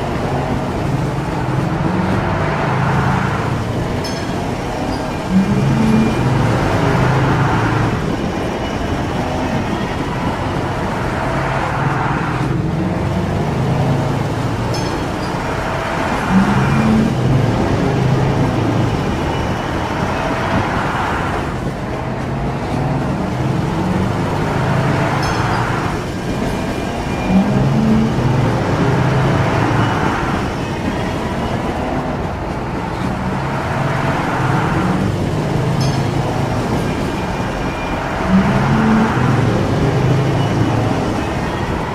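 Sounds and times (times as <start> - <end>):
bulldozer diesel engine working: 0.0 - 41.9.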